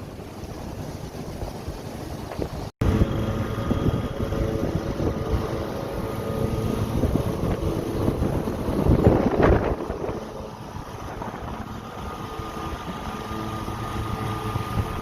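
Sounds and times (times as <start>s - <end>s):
heavy surf rumble: 0.0s - 15.0s
wind buffeting microphone: 0.6s - 15.0s.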